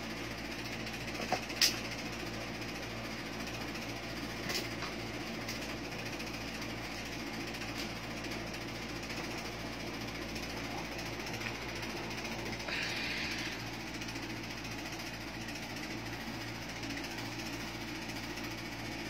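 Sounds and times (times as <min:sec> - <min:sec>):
electric fan humming: 0:00.0 - 0:19.0.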